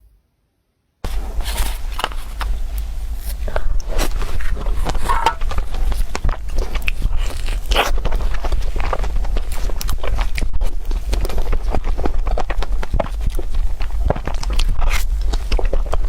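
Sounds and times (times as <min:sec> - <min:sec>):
person chewing crunchy food: 0:01.0 - 0:16.0
steady low hum: 0:01.0 - 0:16.0.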